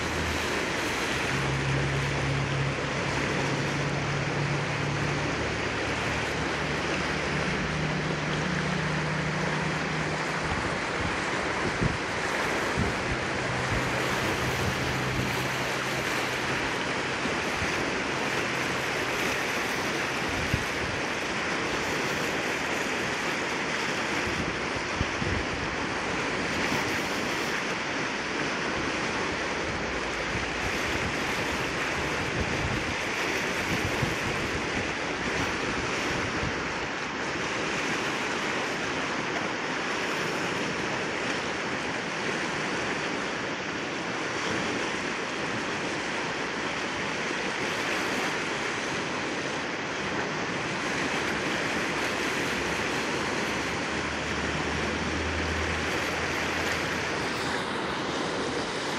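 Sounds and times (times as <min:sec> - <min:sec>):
water rushing over rocks: 0:00.0 - 0:58.9.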